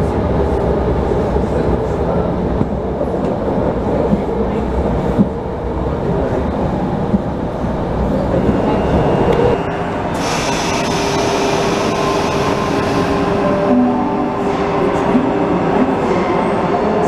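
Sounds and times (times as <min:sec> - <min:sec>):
electric train rumbling on track: 0:00.0 - 0:17.0
train hum and high hiss: 0:00.0 - 0:17.0.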